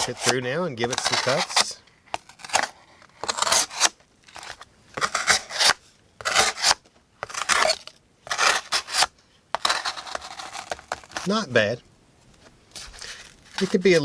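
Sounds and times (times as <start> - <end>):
knife slicing cardboard: 0.0 - 11.5, 12.8 - 14.0.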